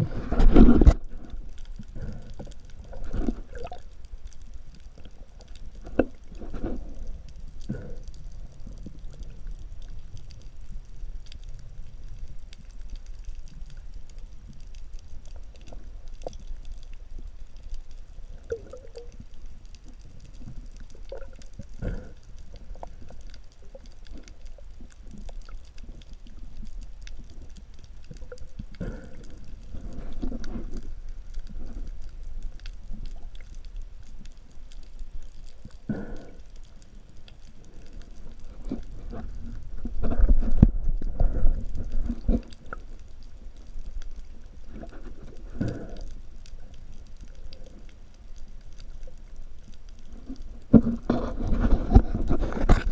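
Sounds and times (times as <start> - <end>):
underwater low rumble: 0.0 - 52.9
water gurgling: 0.0 - 52.9.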